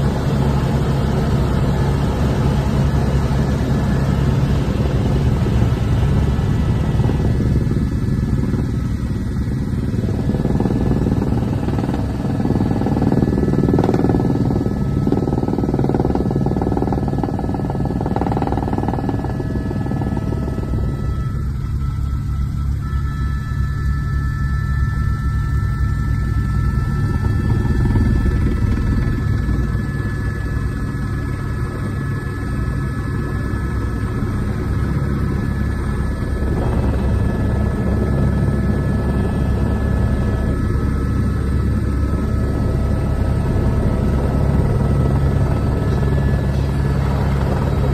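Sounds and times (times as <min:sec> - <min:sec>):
helicopter rotor beating: 0:00.0 - 0:47.9
turbine whining: 0:00.0 - 0:47.9.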